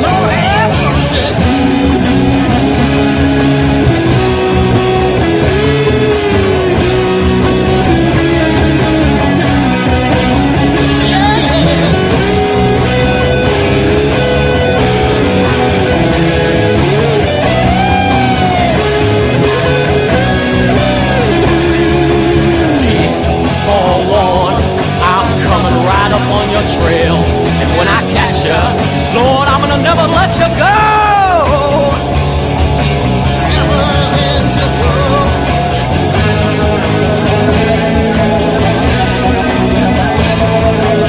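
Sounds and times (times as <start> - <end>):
electric guitar lead notes: 0.0 - 41.0
instrumental rock music: 0.0 - 41.0.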